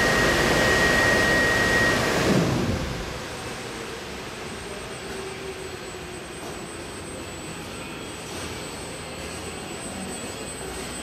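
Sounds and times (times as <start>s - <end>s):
faint high whine: 0.0s - 11.0s
washing machine drone: 0.0s - 11.0s.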